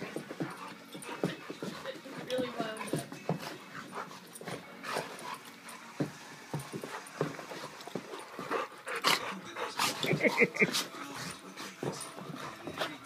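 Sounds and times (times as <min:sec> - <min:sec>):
dogs huffing: 0:00.0 - 0:13.0
dogs scuffling: 0:00.0 - 0:13.0.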